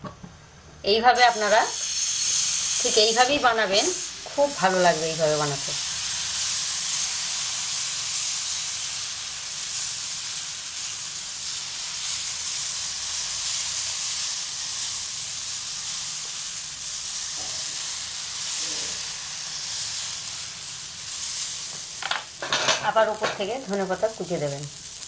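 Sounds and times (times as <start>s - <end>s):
batter sizzling on griddle: 0.9s - 25.0s.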